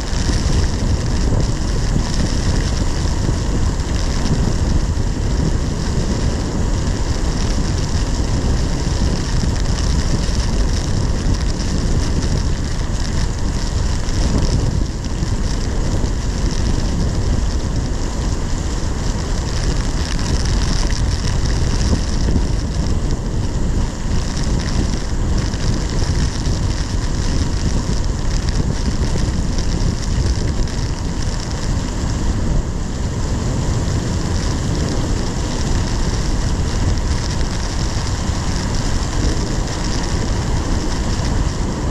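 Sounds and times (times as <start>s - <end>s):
heavy rain beating on a car: 0.0s - 41.9s
wind buffeting rumble: 0.0s - 41.9s.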